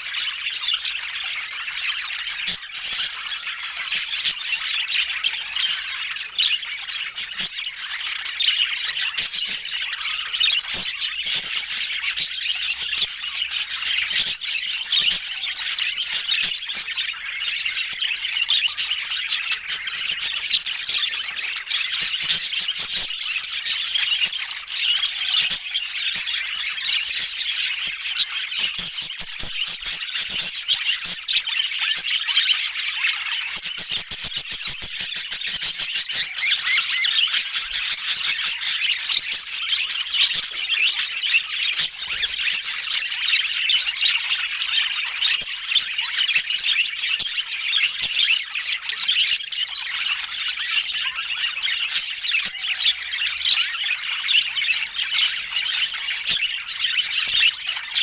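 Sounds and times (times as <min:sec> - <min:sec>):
budgerigars chattering and squawking: 0:00.0 - 0:58.0.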